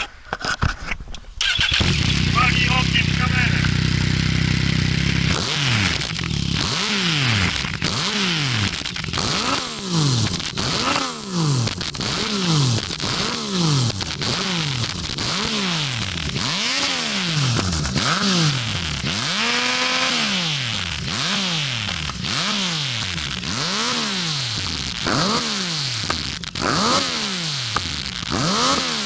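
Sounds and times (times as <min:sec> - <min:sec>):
motorcycle engine revving: 0:01.4 - 0:29.0.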